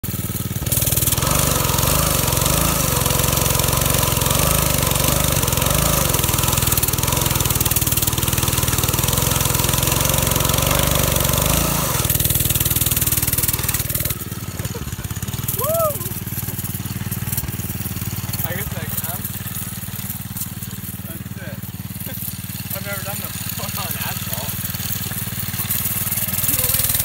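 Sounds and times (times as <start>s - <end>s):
minibike engine labouring: 0.0s - 27.0s.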